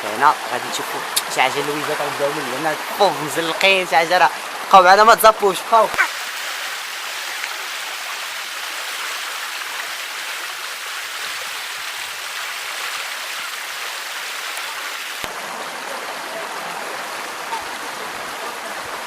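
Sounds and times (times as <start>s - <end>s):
stream water rushing over rocks: 0.0s - 19.0s.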